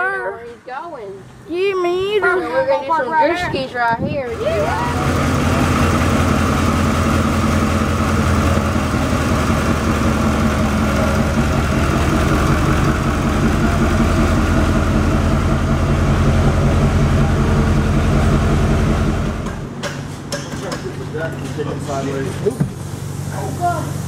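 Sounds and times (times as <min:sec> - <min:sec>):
truck engine idling: 0:04.3 - 0:24.0.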